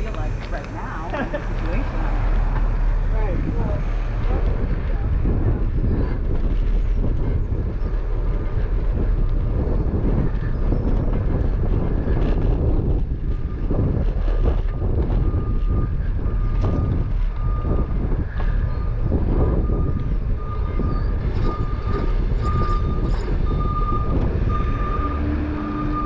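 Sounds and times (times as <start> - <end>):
bicycle tyres rolling on pavement: 0.0 - 26.0
wind buffeting microphone: 0.0 - 26.0.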